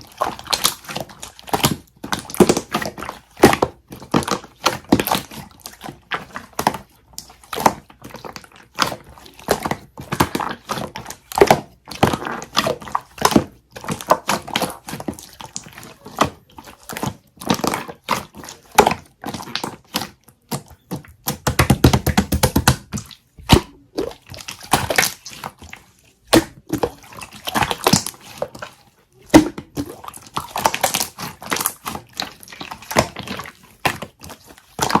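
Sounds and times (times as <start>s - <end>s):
slime squelching stretch: 0.0s - 35.0s
slime clicking and popping: 0.3s - 25.6s, 26.2s - 35.0s.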